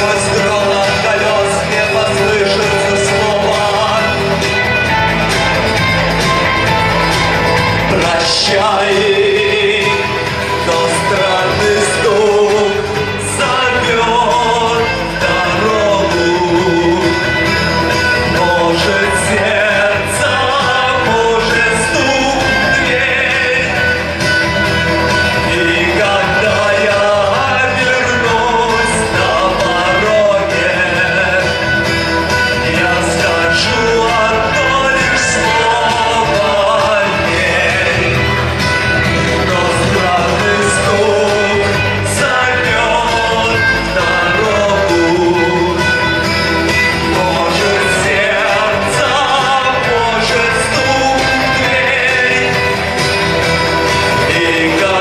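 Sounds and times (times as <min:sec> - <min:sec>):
band accompaniment: 0:00.0 - 0:55.0
person singing: 0:00.0 - 0:55.0
rock guitar: 0:00.0 - 0:55.0.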